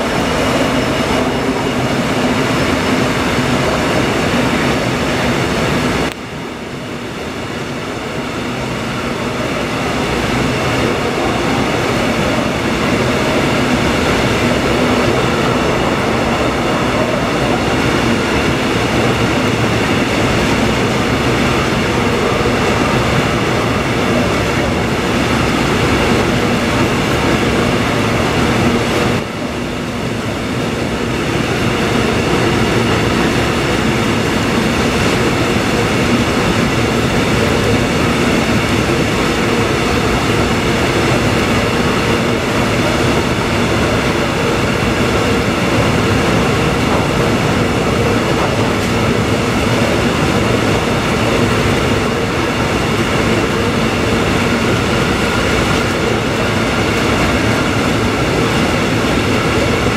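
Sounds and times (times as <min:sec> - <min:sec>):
steady whine: 0:00.0 - 0:59.9
train wheels rumbling and clattering: 0:00.0 - 0:59.9.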